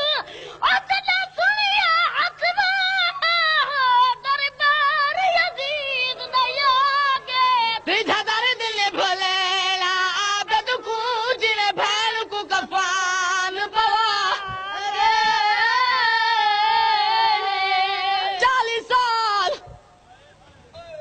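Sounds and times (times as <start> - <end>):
man and boys singing a lament: 0.0 - 20.0.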